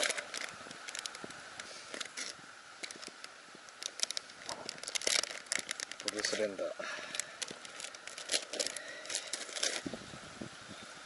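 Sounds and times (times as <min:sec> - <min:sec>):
faint rustling: 0:00.0 - 0:10.0
steady outdoor hiss: 0:00.0 - 0:11.0.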